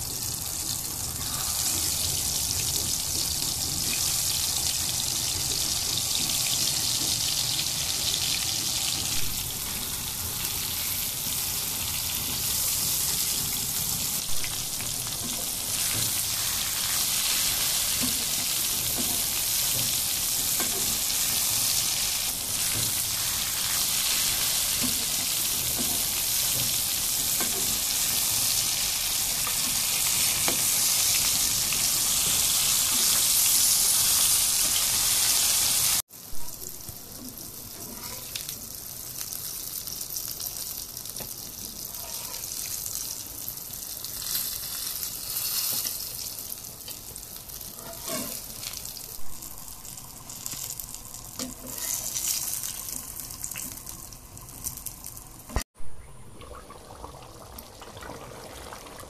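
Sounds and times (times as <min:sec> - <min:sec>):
eggplant sizzling in oil: 0:00.0 - 0:55.7.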